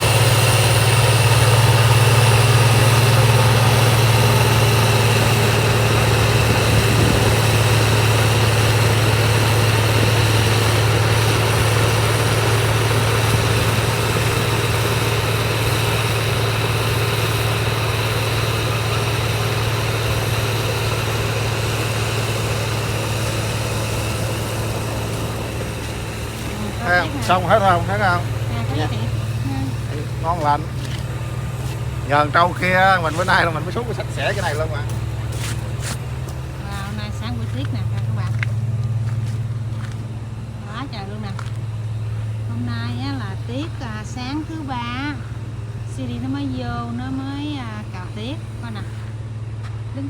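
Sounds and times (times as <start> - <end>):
snow blower engine humming: 0.0 - 50.0.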